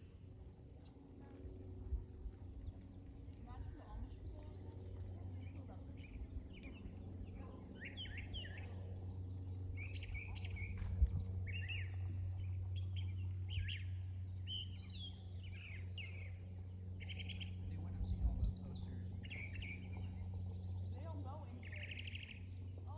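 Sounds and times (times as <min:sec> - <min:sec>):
low steady hum: 0:00.0 - 0:22.9
songbirds chirping: 0:00.0 - 0:22.9.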